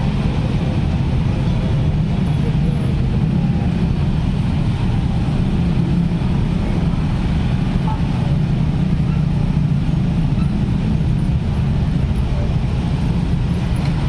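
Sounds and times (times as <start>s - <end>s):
dense road traffic: 0.0s - 14.0s.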